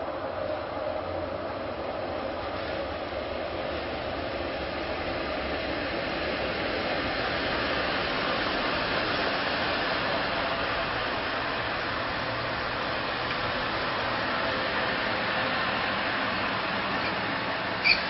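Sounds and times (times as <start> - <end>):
diesel train engine and wheels: 0.0 - 18.0.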